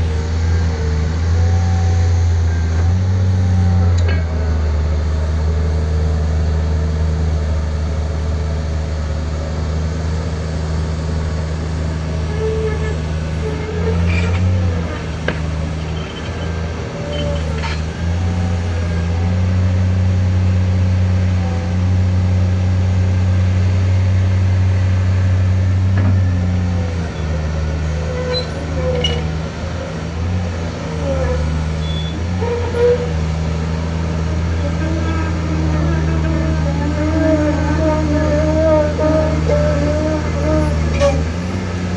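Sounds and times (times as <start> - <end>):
excavator diesel engine droning: 0.0 - 41.9.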